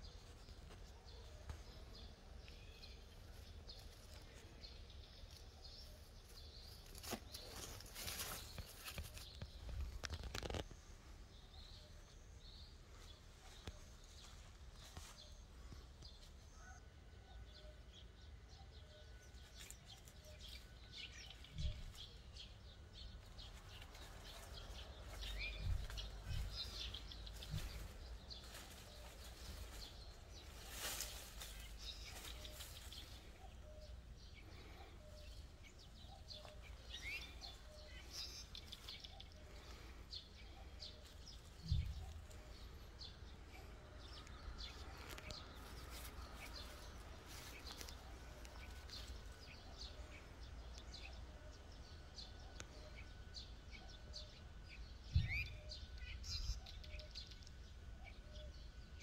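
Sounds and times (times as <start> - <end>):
bird chirps: 11.4 - 59.0.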